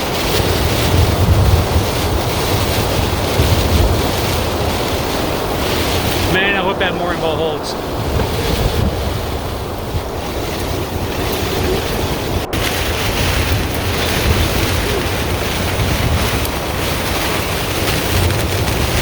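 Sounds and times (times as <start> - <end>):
strong wind buffeting microphone: 0.0 - 19.0
water washing around hull: 0.0 - 19.0.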